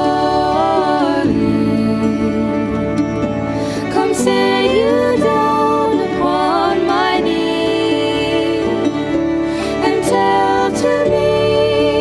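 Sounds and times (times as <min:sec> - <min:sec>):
folk music with sliding melody: 0:00.0 - 0:12.0.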